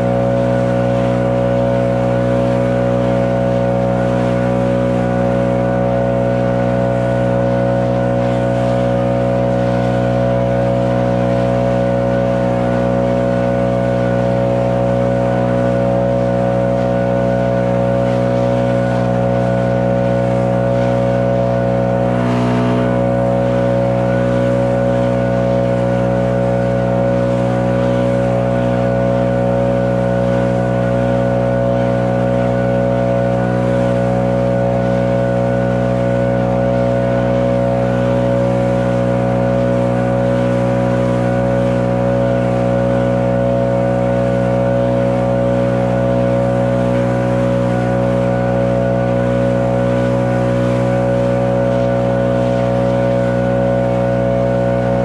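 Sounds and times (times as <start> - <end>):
backpack blower running: 0.0 - 55.0.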